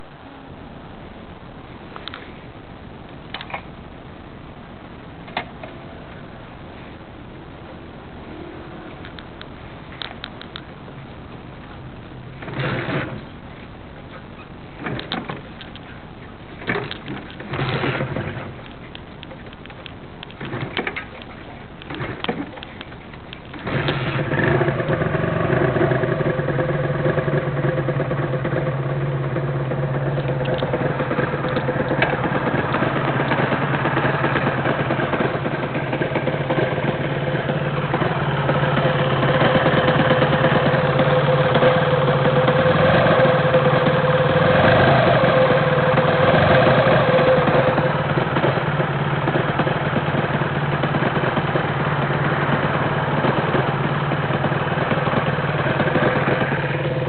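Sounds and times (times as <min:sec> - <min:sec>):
engine idling with mechanical rattle: 0:01.7 - 0:57.0
motorcycle engine starting: 0:08.2 - 0:57.0.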